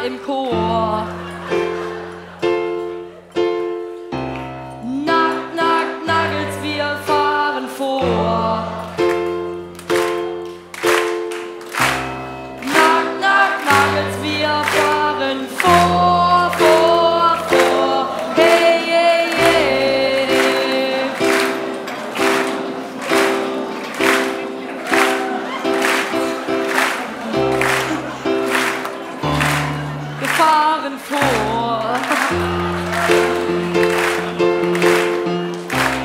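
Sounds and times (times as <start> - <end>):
electronic keyboard music: 0.0 - 36.0.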